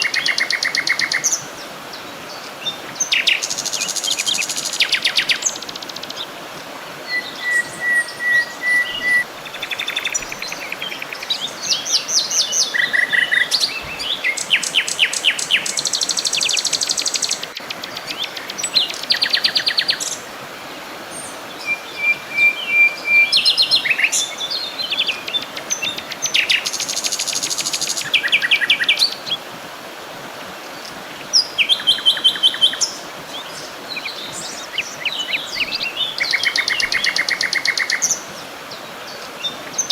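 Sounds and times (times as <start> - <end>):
faint steady hiss: 0.0 - 39.9
songbirds singing: 0.0 - 39.9.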